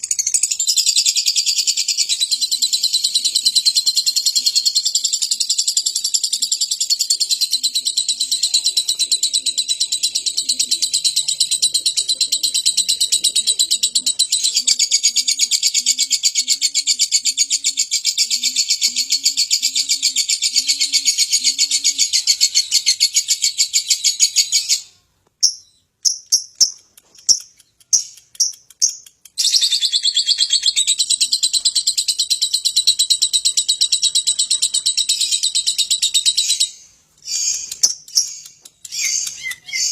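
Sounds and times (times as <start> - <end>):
lovebird high-pitched chatter: 0.0 - 39.9
separate bird chirps: 0.0 - 39.9.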